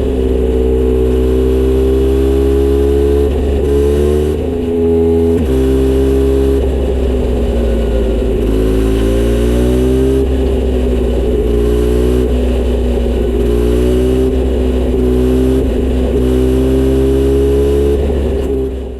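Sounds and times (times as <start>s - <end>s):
motorcycle engine running loud: 0.0s - 18.9s.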